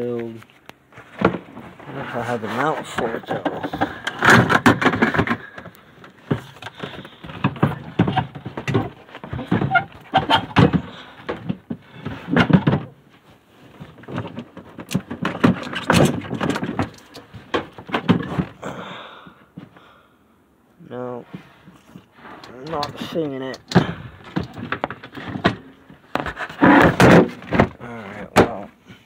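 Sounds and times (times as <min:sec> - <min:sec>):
car parts clattering and rattling: 0:00.9 - 0:18.8, 0:21.3 - 0:28.7.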